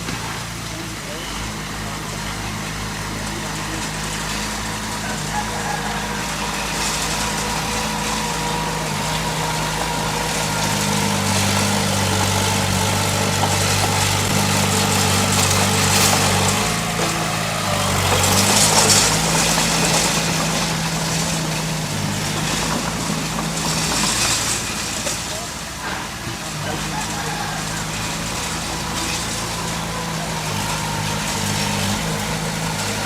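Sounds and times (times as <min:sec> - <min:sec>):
heavy machinery diesel engine: 0:00.0 - 0:33.0.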